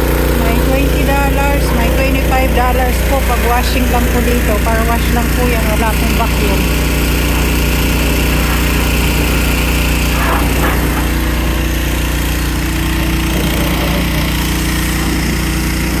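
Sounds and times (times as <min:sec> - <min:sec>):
pressure washer engine drone: 0:00.0 - 0:16.0
water spray hissing: 0:00.0 - 0:16.0.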